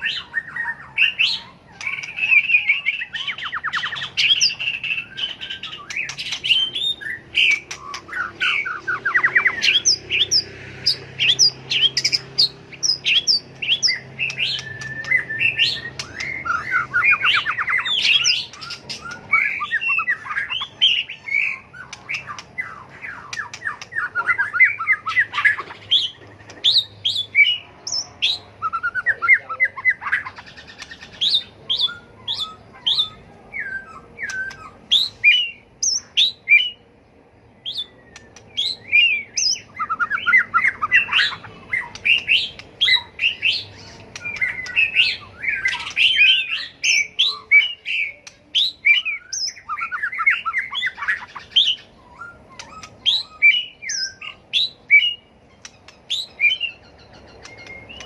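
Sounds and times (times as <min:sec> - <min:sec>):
bird singing whistled notes and trills: 0:00.0 - 0:58.0.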